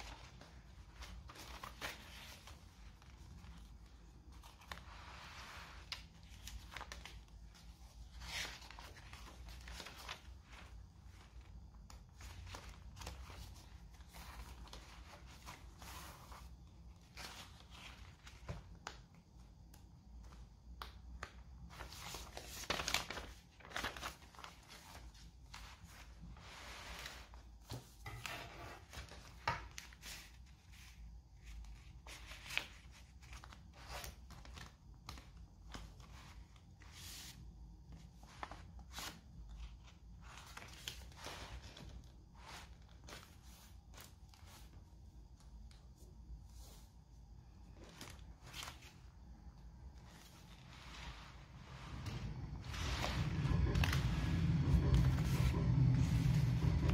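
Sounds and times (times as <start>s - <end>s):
paper pages rustling: 0.0s - 56.9s.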